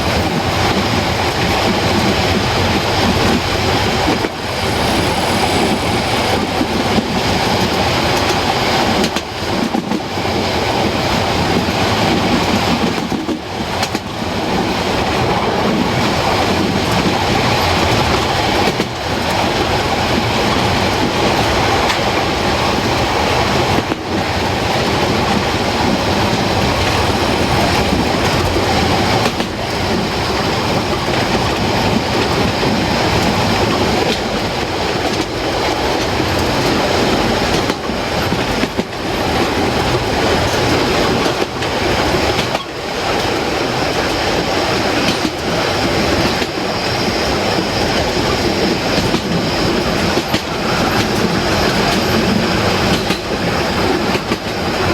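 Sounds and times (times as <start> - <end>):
clickety-clack over rail joints: 0.0 - 54.9
train wheels rumbling on rails: 0.0 - 54.9.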